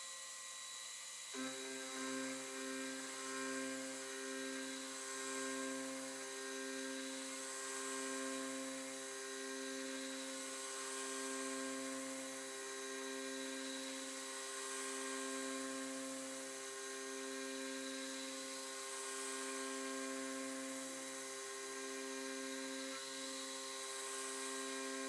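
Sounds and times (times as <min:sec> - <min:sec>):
milling machine whining: 0:01.4 - 0:25.0.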